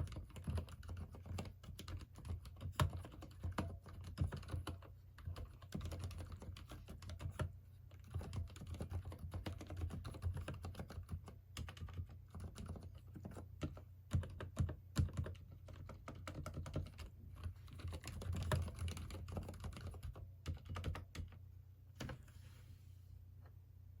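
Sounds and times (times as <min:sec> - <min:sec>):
fast typing on muted keyboard: 0:00.0 - 0:21.4.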